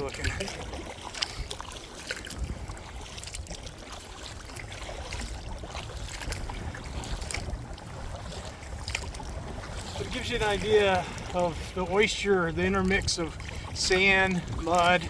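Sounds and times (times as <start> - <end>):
water splashes and drips: 0.0 - 15.0
wind buffeting microphone: 0.0 - 15.0.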